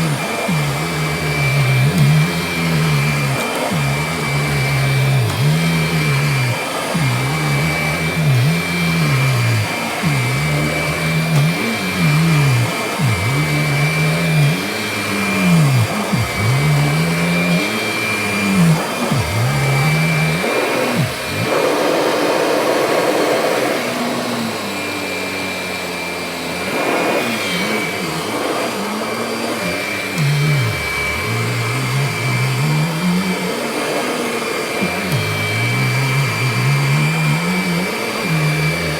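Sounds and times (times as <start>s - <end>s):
upright vacuum running on rug: 0.0s - 38.9s.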